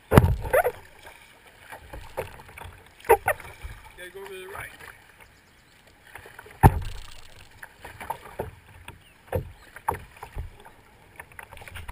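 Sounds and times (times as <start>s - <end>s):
water splashing against kayak hull: 0.0s - 11.9s.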